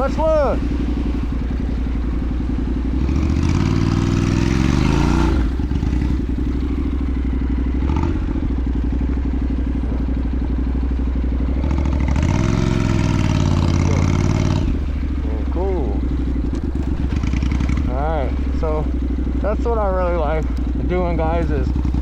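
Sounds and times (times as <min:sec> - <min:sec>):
motorcycle engine pulling away: 0:00.0 - 0:22.0.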